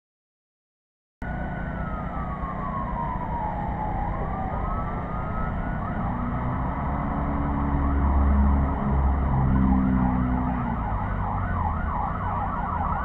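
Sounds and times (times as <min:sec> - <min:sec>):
emergency siren wailing: 0:01.2 - 0:13.0
low rumble: 0:01.2 - 0:13.0.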